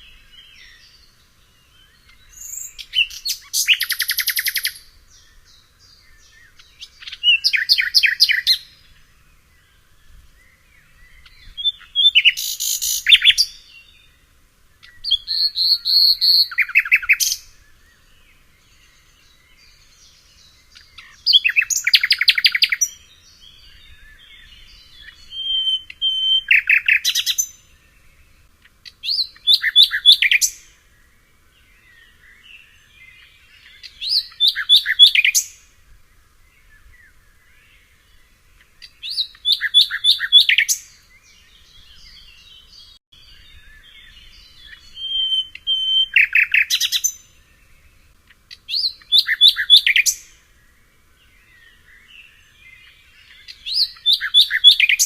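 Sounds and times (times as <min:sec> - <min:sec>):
soft bird twittering and chirps: 0:00.0 - 0:55.0
songbird singing rapid phrases: 0:00.0 - 0:55.0.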